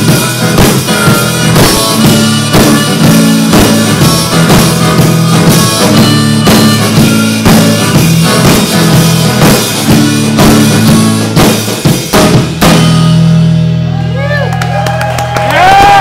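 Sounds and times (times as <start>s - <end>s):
acoustic guitar blues shuffle: 0.0s - 13.8s
drum kit playing: 0.0s - 16.0s.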